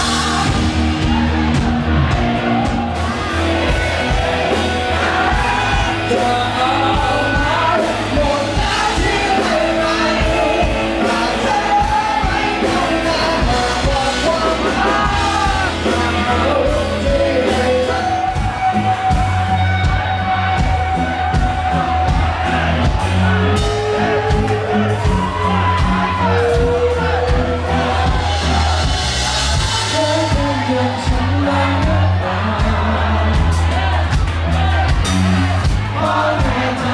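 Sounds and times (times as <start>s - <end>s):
audience shouting: 0.0s - 36.9s
bass guitar: 0.0s - 36.9s
electric guitar: 0.0s - 36.9s
person singing: 3.0s - 33.8s, 35.4s - 36.9s.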